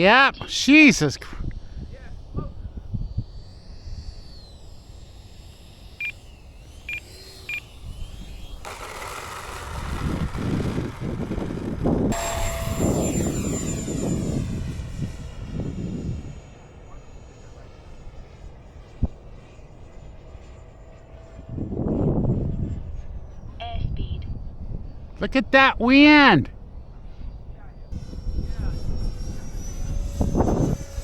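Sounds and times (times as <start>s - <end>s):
model jet fan rushing past: 0.0s - 23.6s, 24.3s - 31.0s.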